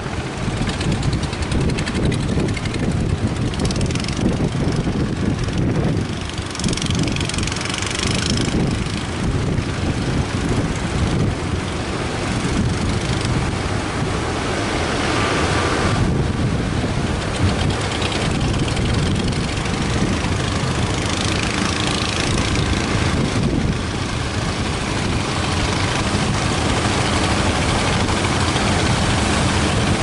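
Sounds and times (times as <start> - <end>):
boat engines rumbling: 0.0 - 30.0
breaking waves hissing: 0.0 - 30.0
wind buffeting microphone: 0.0 - 30.0.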